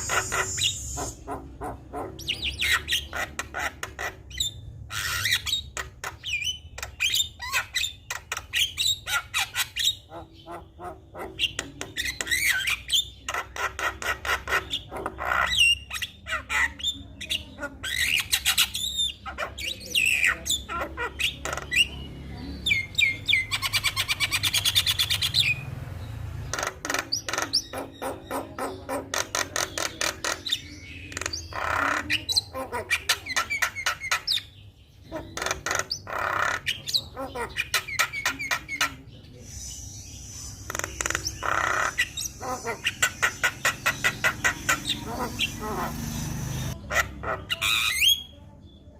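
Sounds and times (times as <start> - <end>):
bird chattering song: 0.0 - 48.9.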